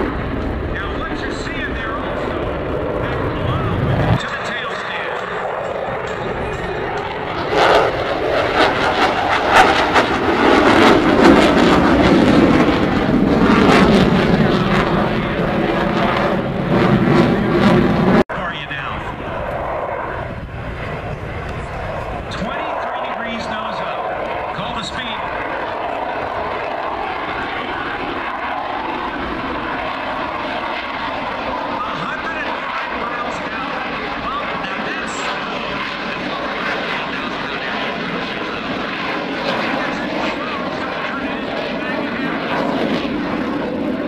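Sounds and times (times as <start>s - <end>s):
jet aircraft flying over: 0.0s - 44.0s.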